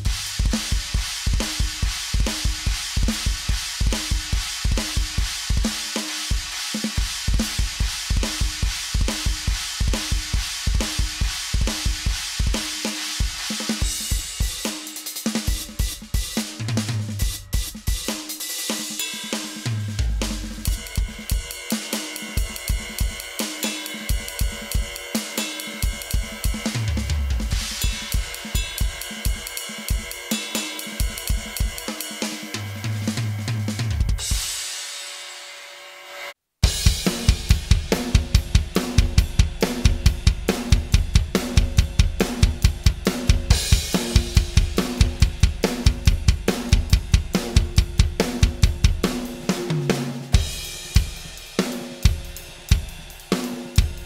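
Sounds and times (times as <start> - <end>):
drum kit groove: 0.0 - 35.5, 36.6 - 54.0.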